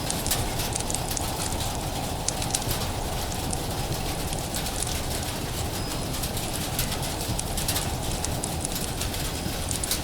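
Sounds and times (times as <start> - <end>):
steady rain: 0.0 - 10.0
wood fire crackling: 0.0 - 10.0.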